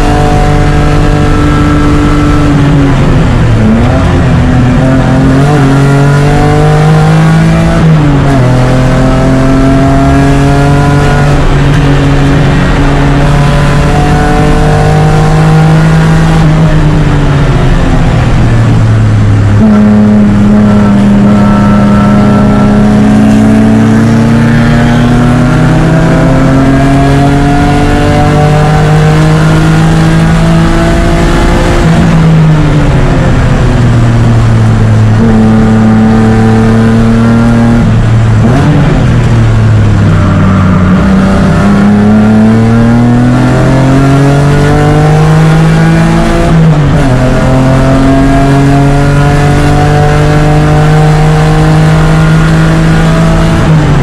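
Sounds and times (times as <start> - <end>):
race car engine revving through gears: 0.0 - 54.0.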